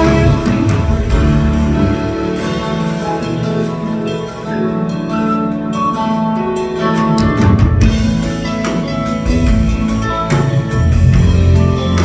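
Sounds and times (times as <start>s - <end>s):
bass: 0.0s - 12.0s
electric guitar: 0.0s - 12.0s.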